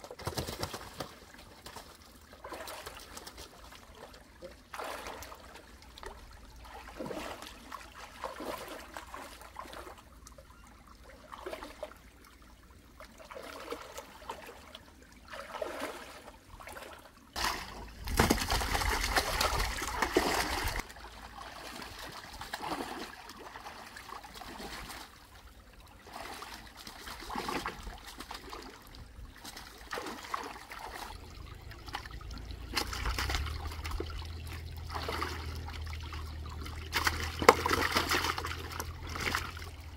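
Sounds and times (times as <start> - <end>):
fish thrashing in water: 0.1 - 10.1, 15.2 - 25.2, 26.0 - 39.9
shallow water splashing: 0.2 - 10.2, 10.9 - 39.9.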